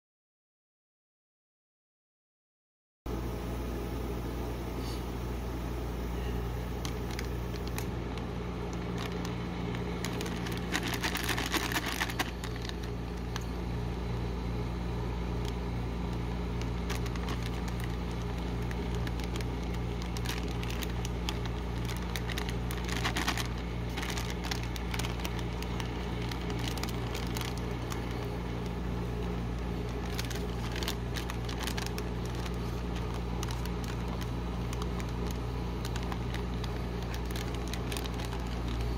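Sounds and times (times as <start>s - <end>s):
machine low hum: 3.1s - 38.9s
foil bag crinkling: 6.2s - 38.9s
pretzels crushed in bag: 6.8s - 38.9s.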